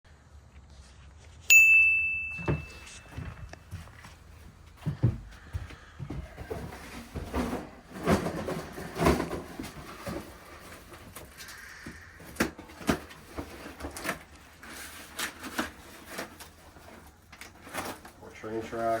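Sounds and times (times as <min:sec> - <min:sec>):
boxes being rummaged through: 0:02.3 - 0:11.5, 0:12.2 - 0:19.0.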